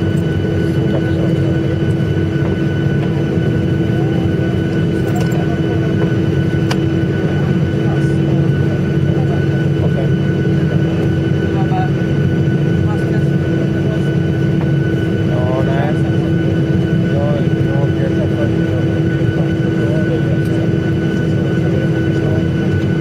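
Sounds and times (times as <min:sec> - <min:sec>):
airliner engine rumble: 0:00.0 - 0:23.0
constant whine: 0:00.0 - 0:23.0.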